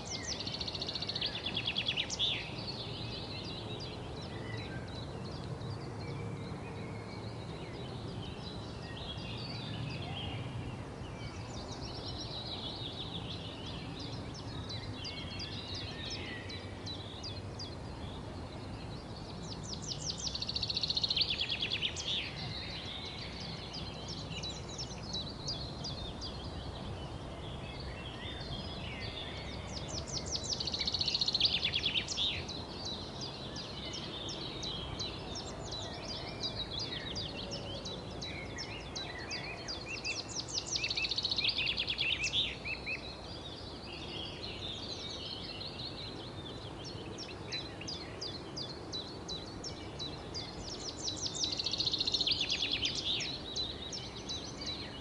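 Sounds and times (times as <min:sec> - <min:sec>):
birds chirping and singing: 0:00.0 - 0:55.0.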